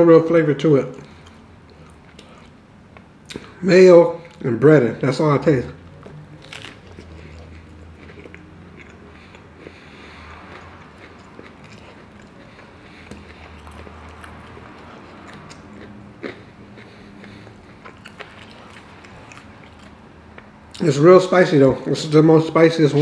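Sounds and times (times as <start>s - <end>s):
low steady hum: 0.0s - 23.0s
person chewing: 1.0s - 4.5s, 5.8s - 20.8s.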